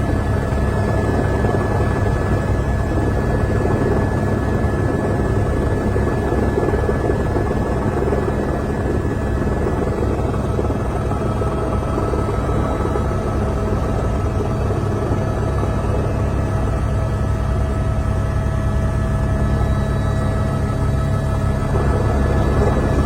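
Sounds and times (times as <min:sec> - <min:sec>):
helicopter engine and rotor drone: 0:00.0 - 0:23.0
high whine: 0:00.0 - 0:23.0.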